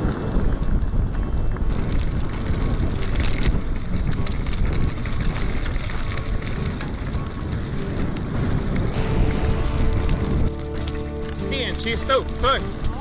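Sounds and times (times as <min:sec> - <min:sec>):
bike rattling over bumps: 0:00.0 - 0:13.0
tyres crunching on gravel: 0:00.0 - 0:13.0.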